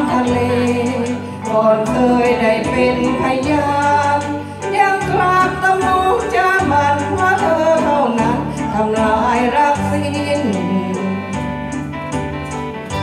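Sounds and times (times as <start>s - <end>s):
karaoke music over loudspeakers: 0.0s - 13.0s.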